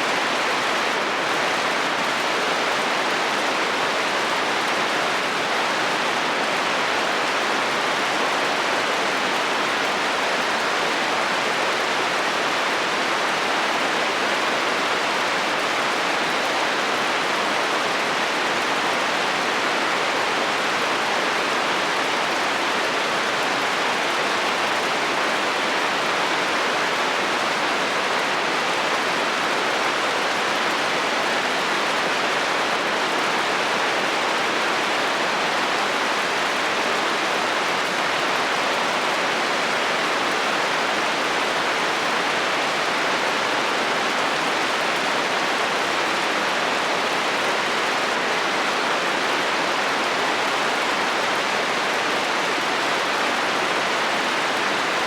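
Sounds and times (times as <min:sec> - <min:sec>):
heavy rain on a metal roof: 0:00.0 - 0:55.0.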